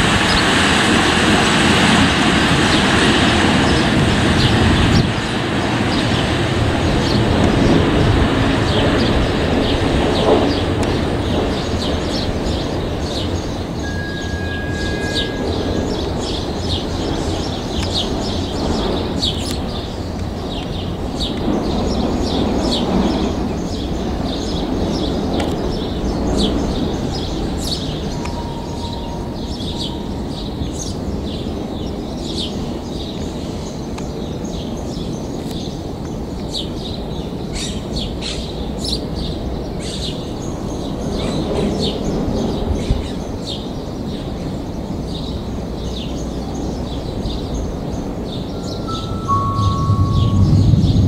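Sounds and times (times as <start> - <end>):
freight train rumbling: 0.0 - 51.0
small birds chirping: 7.0 - 51.0.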